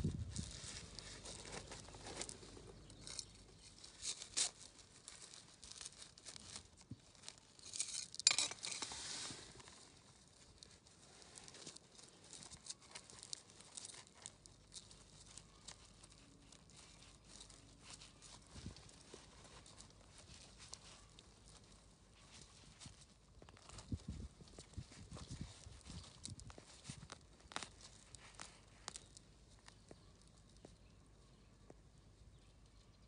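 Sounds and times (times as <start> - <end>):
hands digging through soil and gravel: 0.0 - 30.9.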